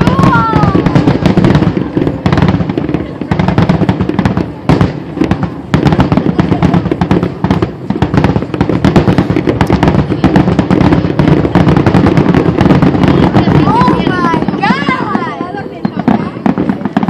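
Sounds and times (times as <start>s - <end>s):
continuous rumble: 0.0s - 17.0s
fireworks bangs and crackles: 0.0s - 17.0s.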